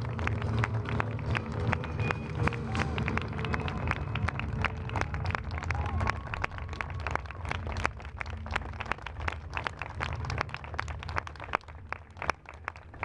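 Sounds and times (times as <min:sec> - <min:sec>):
scattered applause: 0:00.0 - 0:13.0.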